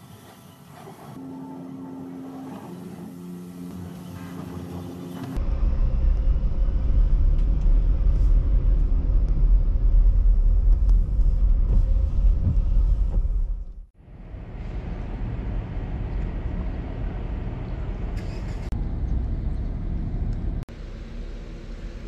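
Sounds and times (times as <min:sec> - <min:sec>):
vehicle rumbling: 0:00.0 - 0:22.0.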